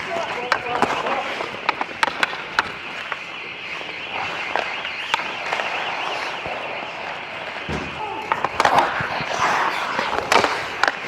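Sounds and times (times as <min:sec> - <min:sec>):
hockey sticks and puck clacking: 0:00.0 - 0:11.0
skate blades scraping ice: 0:00.0 - 0:11.0.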